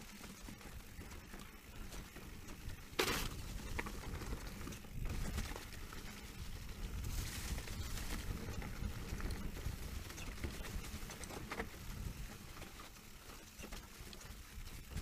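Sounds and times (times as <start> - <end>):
bike tyres rumbling on dirt: 0.0 - 15.0.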